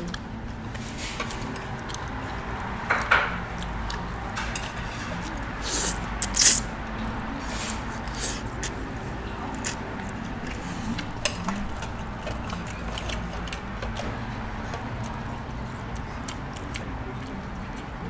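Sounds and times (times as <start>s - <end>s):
person chewing: 0.0s - 4.3s, 5.1s - 6.7s, 8.0s - 14.0s, 14.7s - 17.9s
restaurant background noise: 0.0s - 18.0s.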